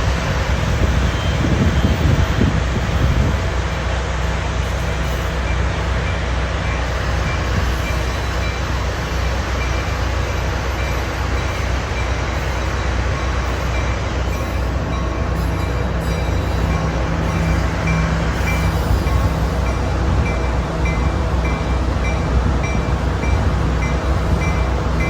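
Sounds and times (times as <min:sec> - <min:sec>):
train equipment humming: 0:00.0 - 0:25.0.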